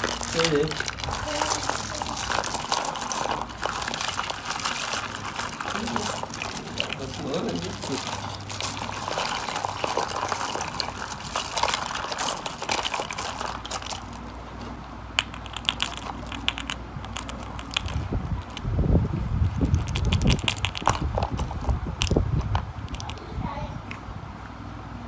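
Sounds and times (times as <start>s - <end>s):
small plastic pieces clicking: 0.0s - 14.2s, 15.2s - 18.7s, 19.4s - 22.2s, 22.9s - 23.2s
rustling and crinkling: 0.0s - 23.3s.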